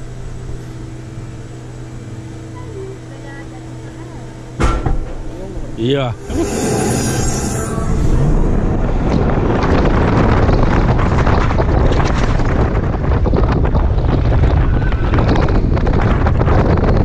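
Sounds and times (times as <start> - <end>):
low rumble: 0.0 - 17.0
wind buffeting microphone: 3.0 - 17.0.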